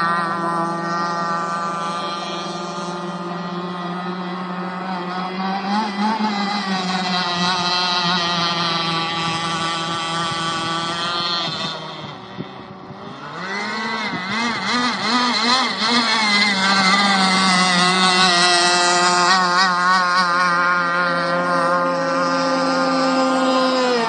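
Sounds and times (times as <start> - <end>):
racing boat motor whine: 0.0 - 24.0.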